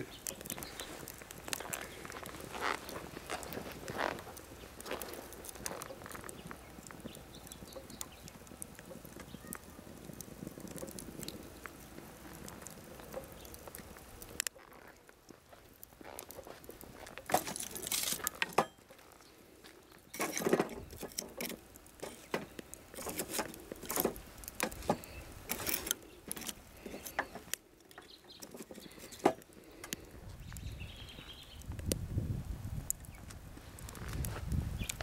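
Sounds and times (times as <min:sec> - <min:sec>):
sticks crackling in a fire: 0:00.0 - 0:35.0.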